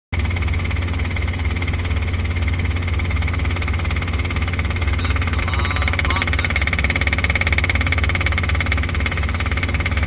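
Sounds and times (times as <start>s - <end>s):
helicopter engine and rotor drone: 0.2s - 10.0s.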